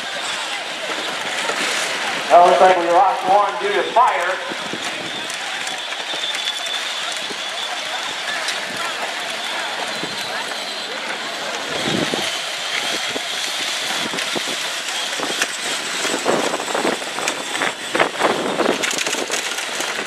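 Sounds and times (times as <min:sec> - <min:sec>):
toy car electric motors whining: 0:03.9 - 0:20.0.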